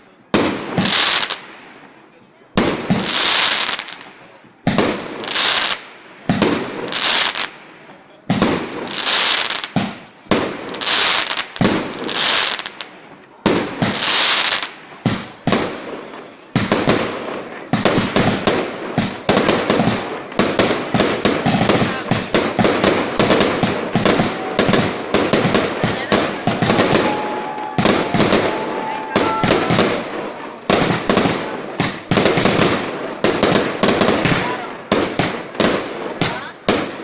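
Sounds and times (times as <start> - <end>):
fireworks exploding: 0.3 - 37.0.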